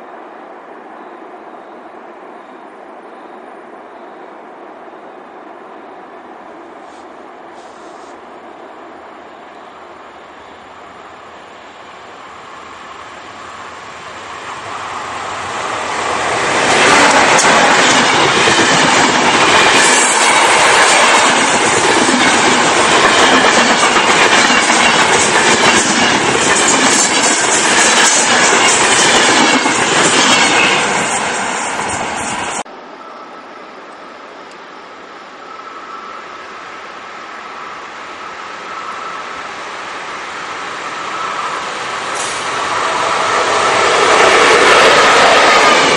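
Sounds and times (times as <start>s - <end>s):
train passing at speed: 0.0s - 45.9s.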